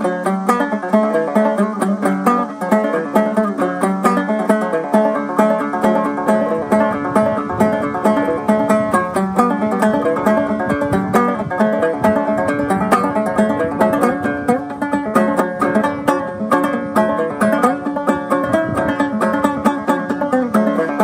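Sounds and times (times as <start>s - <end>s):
banjo playing fiddle tune: 0.0s - 21.0s.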